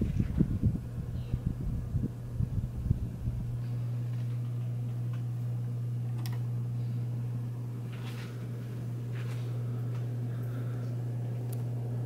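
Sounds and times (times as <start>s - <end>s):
ceiling fan motor humming: 0.0s - 12.0s.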